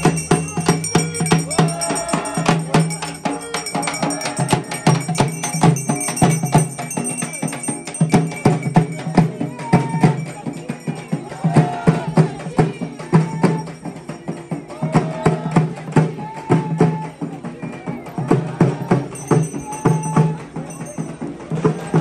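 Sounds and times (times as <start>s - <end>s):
music with busy percussion: 0.0s - 22.0s.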